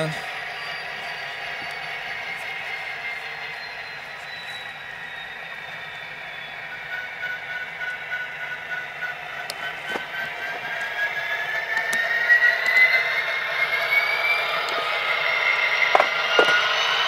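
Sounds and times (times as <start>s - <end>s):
model locomotive diesel engine sound: 0.0s - 17.0s
rising whine: 0.0s - 17.0s.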